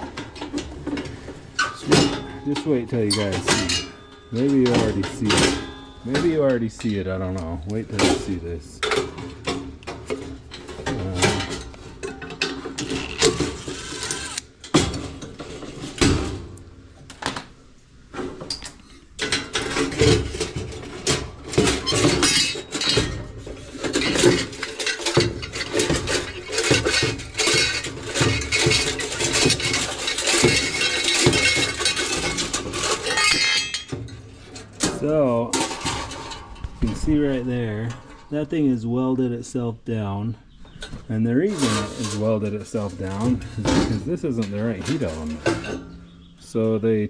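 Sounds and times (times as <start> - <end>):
metal clanking and scraping: 0.0 - 16.8, 18.1 - 46.8.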